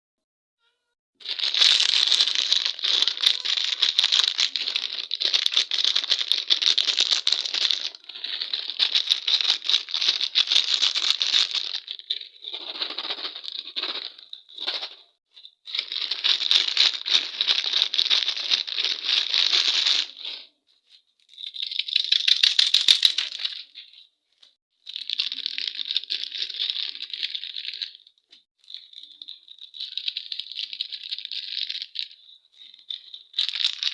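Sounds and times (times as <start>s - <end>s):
candy packaging crinkling: 1.2s - 14.8s, 15.7s - 20.5s, 21.3s - 23.9s, 24.9s - 33.9s.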